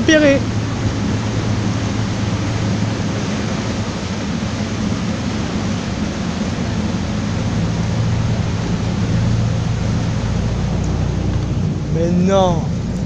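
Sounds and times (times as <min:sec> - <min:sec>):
boat engine humming: 0:00.0 - 0:13.0
water rushing along hull: 0:00.0 - 0:13.0.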